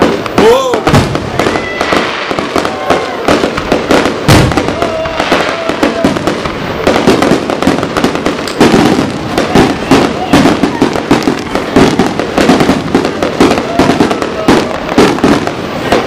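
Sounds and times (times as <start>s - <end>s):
fireworks bangs and crackles: 0.0s - 16.0s
heavy fireworks booms: 0.0s - 16.0s.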